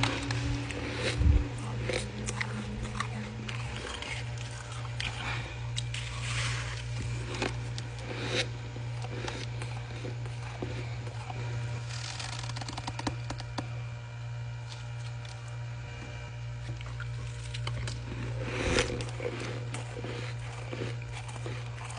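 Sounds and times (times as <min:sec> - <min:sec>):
ice being chewed: 0:00.0 - 0:13.7, 0:14.6 - 0:21.9
steady low hum: 0:00.0 - 0:21.9.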